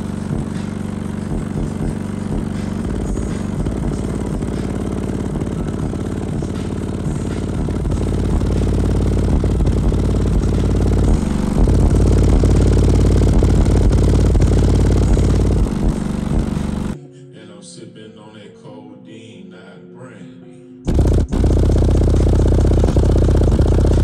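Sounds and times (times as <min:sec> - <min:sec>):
subwoofer playing bass-heavy music: 0:00.0 - 0:17.0, 0:20.9 - 0:24.0.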